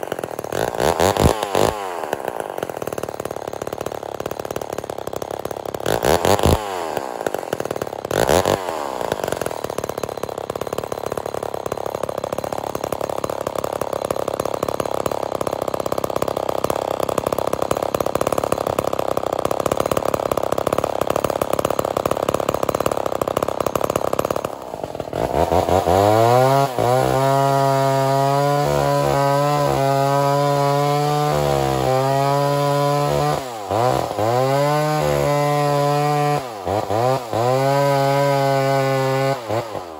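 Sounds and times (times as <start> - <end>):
chainsaw cutting log: 0.0 - 39.9
chainsaw revving and idling: 0.0 - 39.9.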